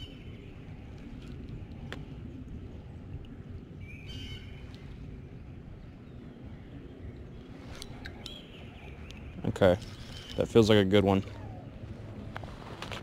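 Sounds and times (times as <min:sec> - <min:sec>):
low rushing background: 0:00.0 - 0:13.0.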